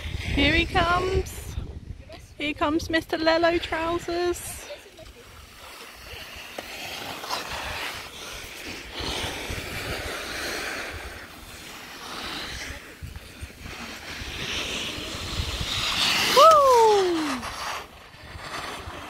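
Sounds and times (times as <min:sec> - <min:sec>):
wind buffeting microphone: 0:00.0 - 0:06.3, 0:07.5 - 0:11.6, 0:12.3 - 0:19.0
skis scraping over packed snow: 0:00.0 - 0:19.0.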